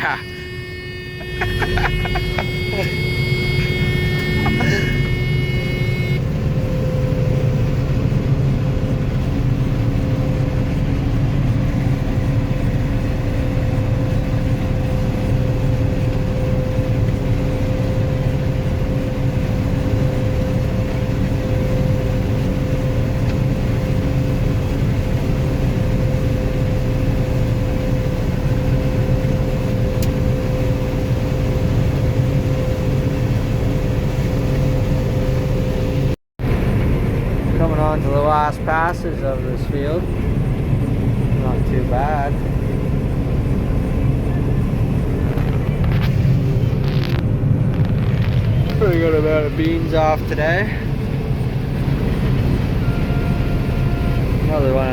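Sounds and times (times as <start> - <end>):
combine harvester drone: 0.0 - 54.9
constant machine whine: 0.0 - 54.9.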